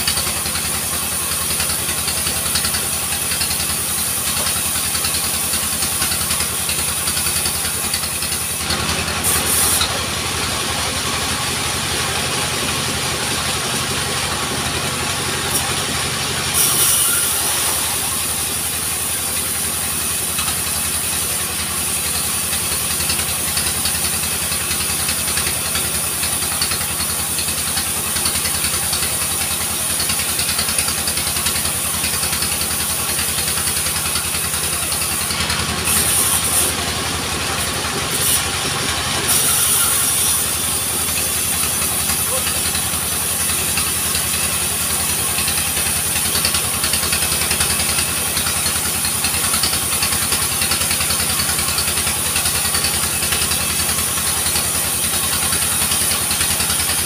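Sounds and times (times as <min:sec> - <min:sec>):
portable sawmill engine running: 0:00.0 - 0:57.0.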